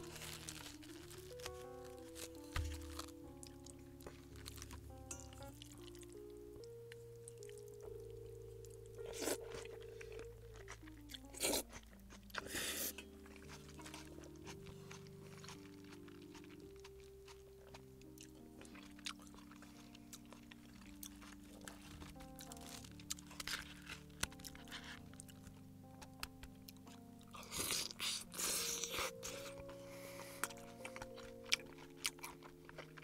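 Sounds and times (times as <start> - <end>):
crunchy chewing of fried food: 0.0 - 33.0
soft background music: 0.0 - 33.0.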